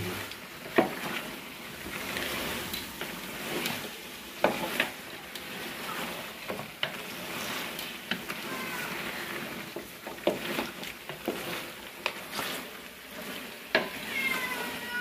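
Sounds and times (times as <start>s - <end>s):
chicken sizzling in a pot: 0.0s - 15.0s
wooden spoon scraping pot: 0.0s - 15.0s.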